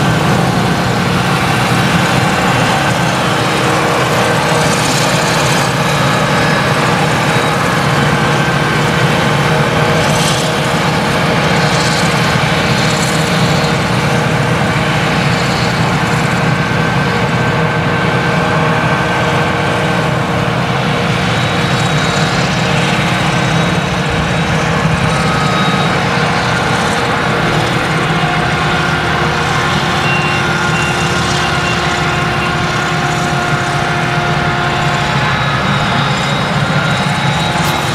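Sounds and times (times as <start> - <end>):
harvester engine droning: 0.0 - 37.9
tractor engine: 0.0 - 37.9.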